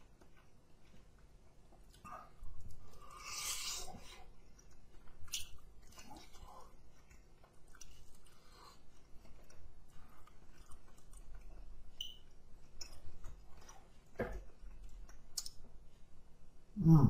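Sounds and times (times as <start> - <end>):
person chewing with mouth smacks: 0.0 - 15.8.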